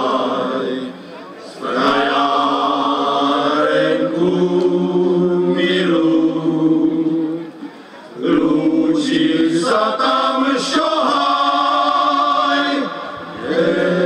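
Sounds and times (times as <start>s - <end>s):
men's choir singing in harmony: 0.0s - 7.5s, 8.2s - 14.0s.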